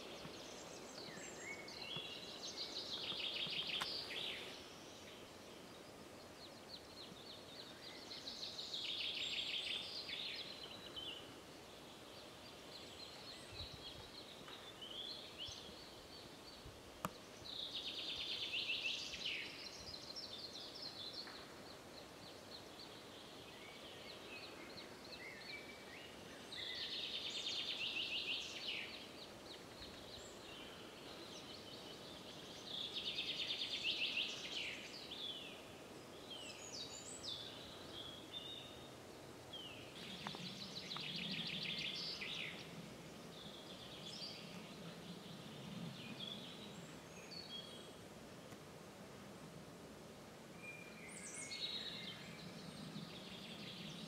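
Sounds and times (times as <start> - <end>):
faint background noise: 0.0 - 54.0.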